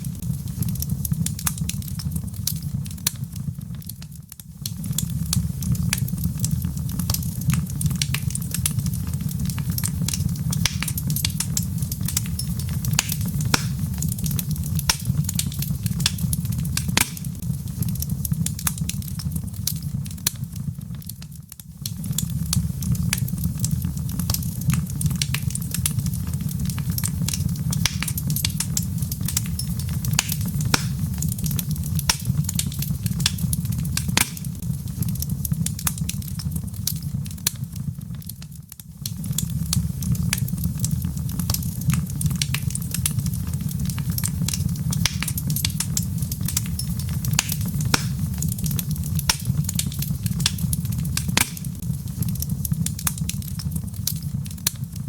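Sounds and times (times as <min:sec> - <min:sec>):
fire low rumble: 0:00.0 - 0:55.0
logs crackling and popping: 0:00.0 - 0:55.0.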